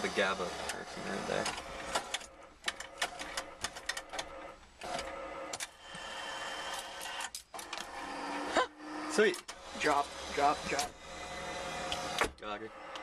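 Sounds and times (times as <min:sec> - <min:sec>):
motor whirring: 0:00.0 - 0:13.0.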